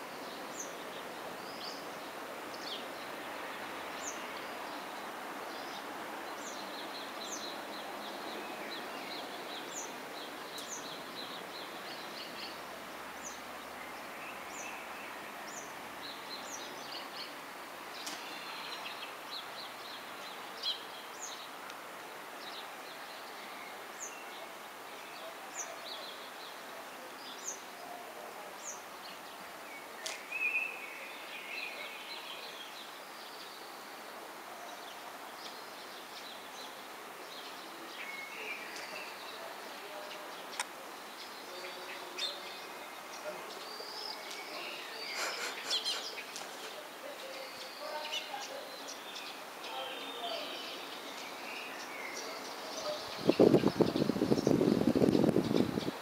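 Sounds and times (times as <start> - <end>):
outdoor background hiss: 0.0 - 56.0
small birds chirping: 0.0 - 56.0.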